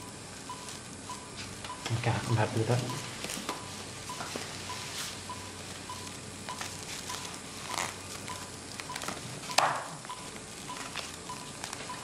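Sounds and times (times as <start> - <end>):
patient monitor beeping: 0.0 - 12.0
plastic and foil crinkling: 0.6 - 9.5, 10.1 - 12.0.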